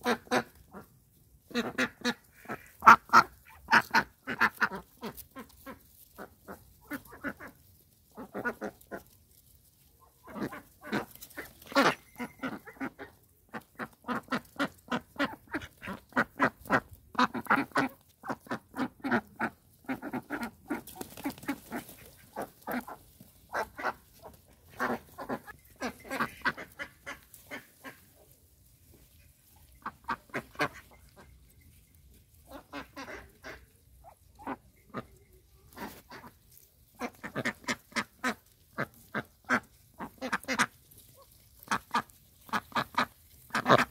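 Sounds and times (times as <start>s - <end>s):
ducks quacking: 0.0s - 9.2s, 10.0s - 31.7s, 32.4s - 43.9s.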